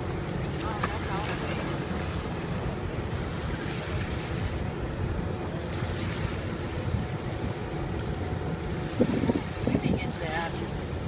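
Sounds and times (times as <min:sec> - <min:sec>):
small waves lapping: 0:00.0 - 0:11.0
wind rumbling on microphone: 0:00.0 - 0:11.0.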